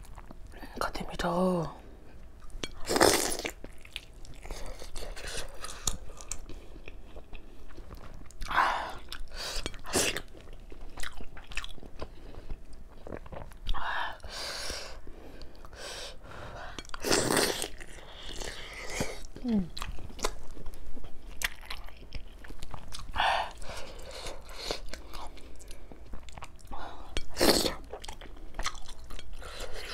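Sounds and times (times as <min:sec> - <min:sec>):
chewing soft dumplings: 0:02.0 - 0:29.9.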